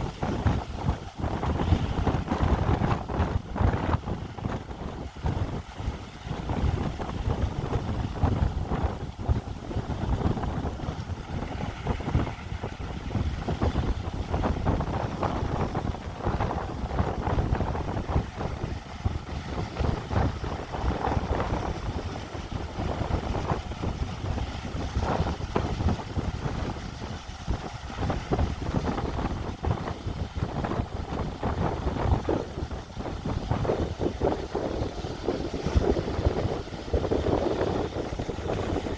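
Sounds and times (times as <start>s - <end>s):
strong wind buffeting microphone: 0.0s - 38.9s.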